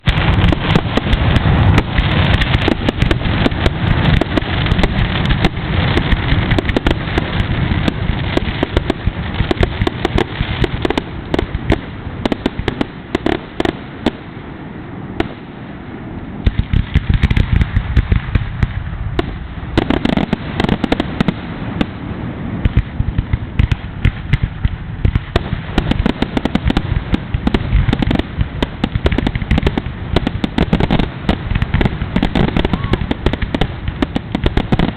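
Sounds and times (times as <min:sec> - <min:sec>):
fireworks bursts and crackle: 0:00.0 - 0:34.9.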